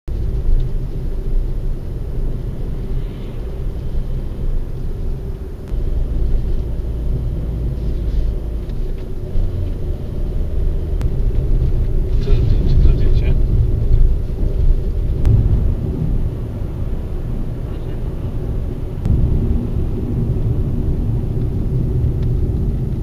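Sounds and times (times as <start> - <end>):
car tyres and engine rumble: 0.1 - 23.0.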